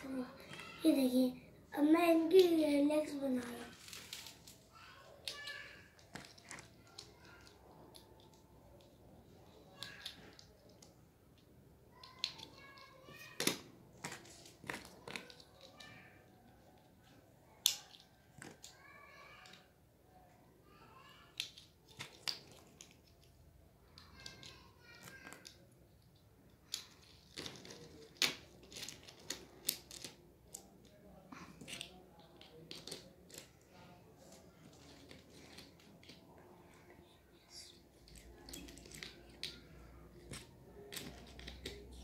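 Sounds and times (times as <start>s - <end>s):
plastic blocks clicking together: 4.0s - 19.8s, 21.2s - 33.7s, 34.6s - 36.4s, 37.0s - 42.0s.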